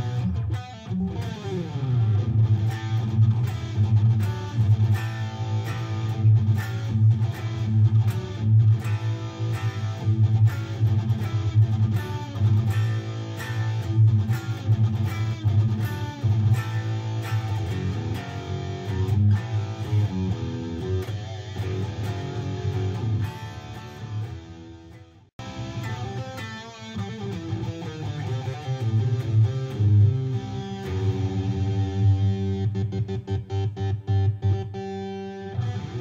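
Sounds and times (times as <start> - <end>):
electric guitar playing rock riffs: 0.0 - 36.0.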